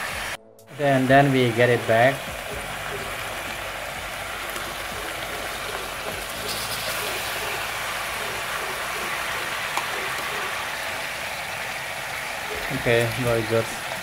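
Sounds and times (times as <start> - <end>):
sauce sizzling in a pot: 0.0 - 14.0.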